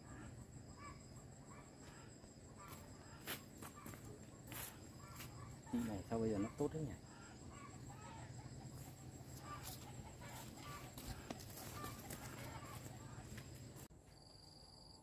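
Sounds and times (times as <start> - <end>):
insect trilling: 0.0 - 13.2
chickens clucking: 1.4 - 13.8.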